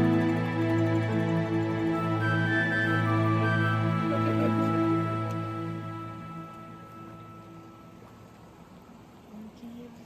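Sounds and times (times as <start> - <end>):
music of sustained notes: 0.0 - 9.0.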